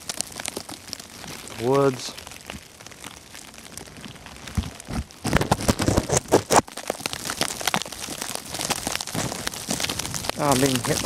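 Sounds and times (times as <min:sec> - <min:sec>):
plastic bag crinkling: 0:00.0 - 0:11.0
snow pattering on plastic bag: 0:00.0 - 0:11.0.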